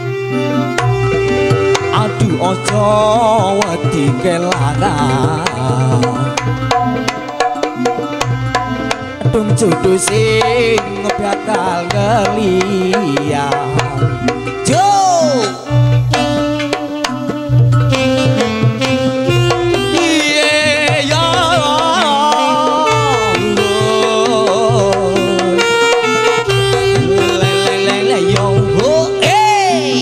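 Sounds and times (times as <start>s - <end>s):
wavering melody: 0.0s - 30.0s.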